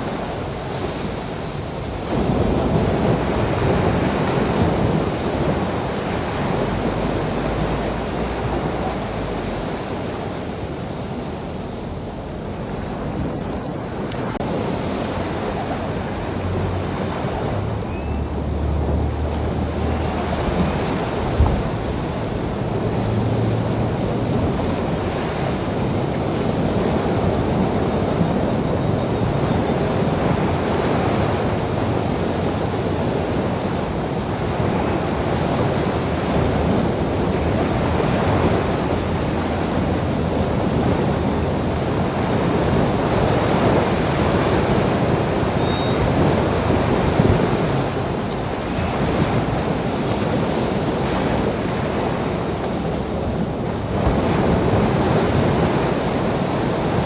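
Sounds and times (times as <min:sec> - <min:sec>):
sea surf washing on shore: 0:00.0 - 0:57.0.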